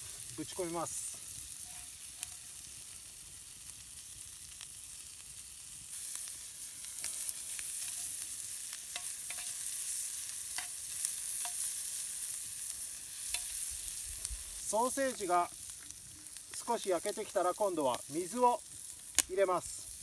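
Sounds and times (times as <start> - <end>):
crackles and pops: 0.0 - 20.0
food sizzling in a pan: 0.0 - 20.0.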